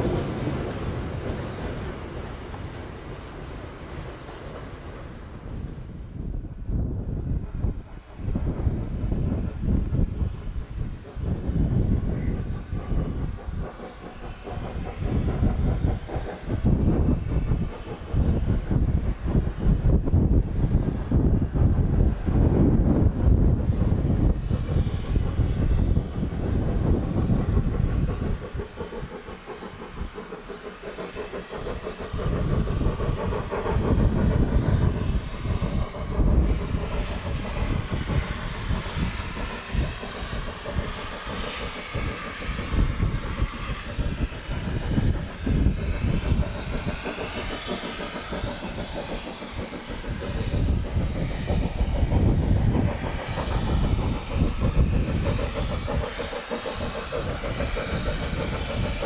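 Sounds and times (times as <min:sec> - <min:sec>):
steam train rumbling on track: 0:00.0 - 0:59.0.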